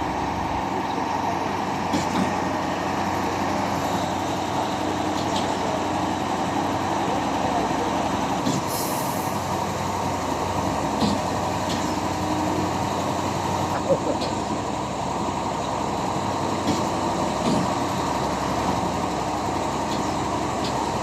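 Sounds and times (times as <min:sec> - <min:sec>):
concrete pump running: 0:00.0 - 0:21.0.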